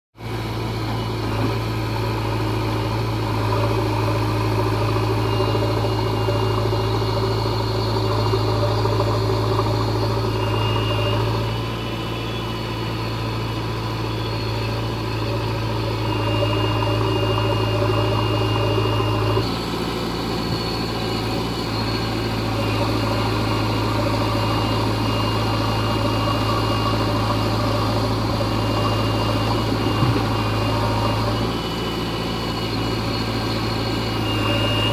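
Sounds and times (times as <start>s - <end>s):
diesel engine running: 0.2s - 34.9s
faint high whine: 0.4s - 34.9s.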